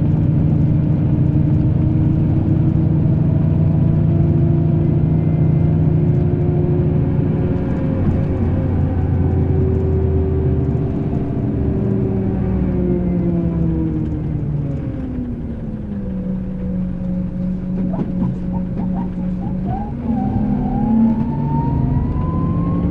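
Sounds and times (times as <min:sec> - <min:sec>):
coach engine running: 0:00.0 - 0:22.9.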